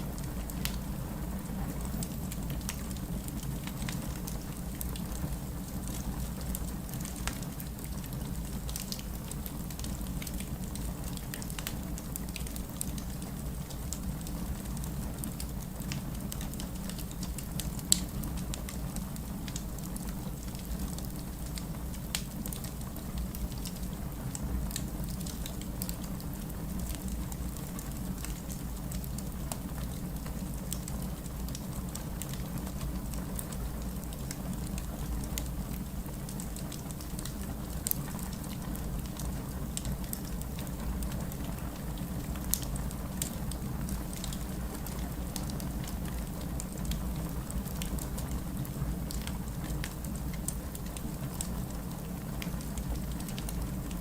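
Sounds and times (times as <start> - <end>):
fireplace crackling: 0.0 - 54.0
steady rain hiss: 0.0 - 54.0.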